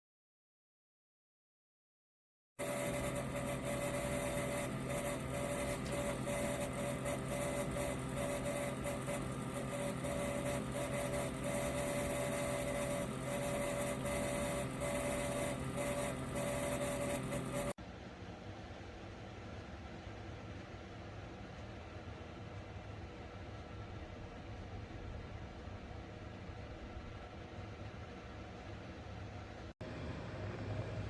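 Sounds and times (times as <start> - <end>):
heater fan whirring: 2.6 - 31.0.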